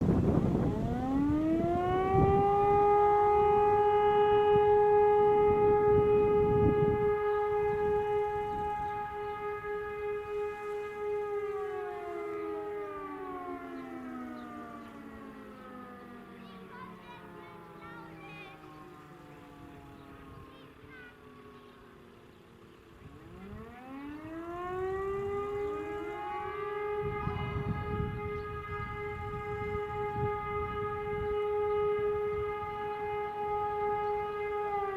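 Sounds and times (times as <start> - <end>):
fire alarm siren: 0.0 - 34.9.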